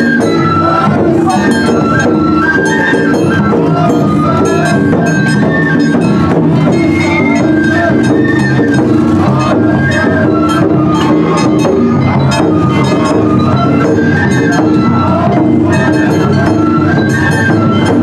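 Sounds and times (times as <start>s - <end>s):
high flute melody: 0.0s - 18.0s
steady drumming: 0.0s - 18.0s.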